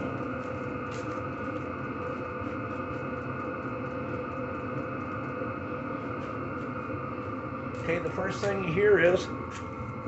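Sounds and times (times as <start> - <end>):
heater fan blowing with hum: 0.0 - 10.0.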